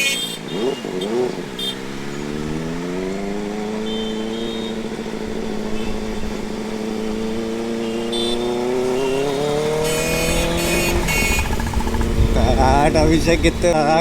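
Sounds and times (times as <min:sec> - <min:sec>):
motorcycle engine accelerating: 0:00.5 - 0:14.0.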